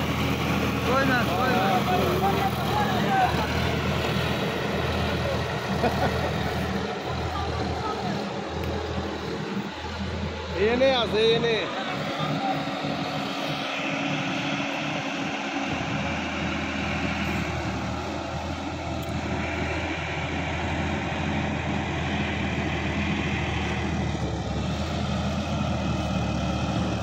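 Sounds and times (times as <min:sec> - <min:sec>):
tractor diesel engine droning: 0:00.0 - 0:27.0.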